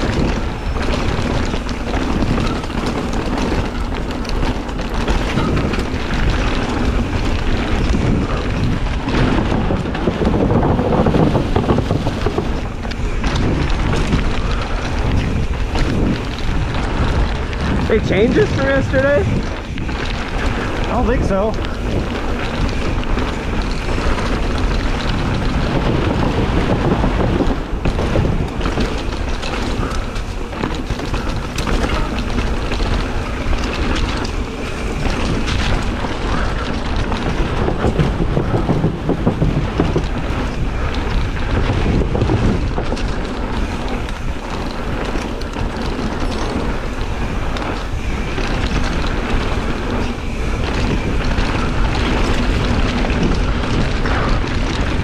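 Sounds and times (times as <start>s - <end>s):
bike knocks and rattles: 0.0s - 55.0s
tyres on dirt and rock: 0.0s - 55.0s
wind rushing over microphone: 0.0s - 55.0s.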